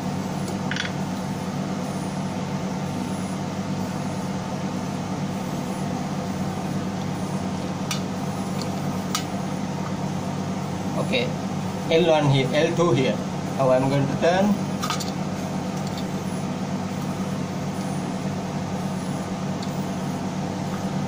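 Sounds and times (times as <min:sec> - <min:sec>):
engine room machinery hum: 0:00.0 - 0:21.0.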